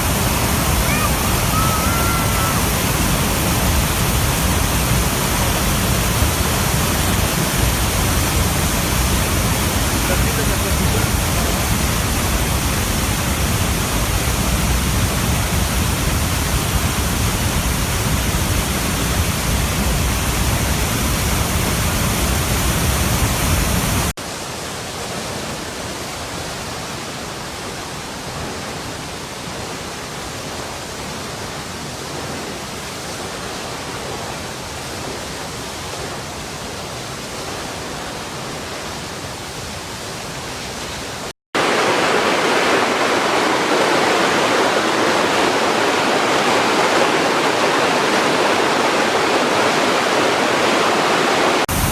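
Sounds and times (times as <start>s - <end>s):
running water rushing: 0.0s - 51.9s.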